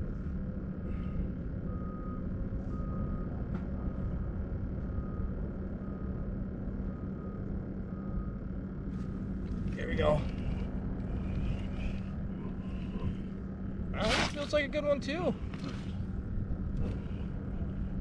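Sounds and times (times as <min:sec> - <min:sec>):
low engine-like rumble: 0:00.0 - 0:18.0.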